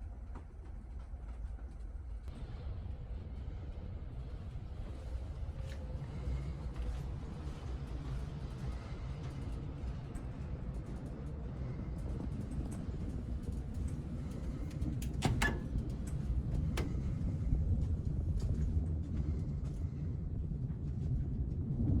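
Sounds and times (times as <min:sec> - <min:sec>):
ferry engine rumble: 0:02.3 - 0:21.1.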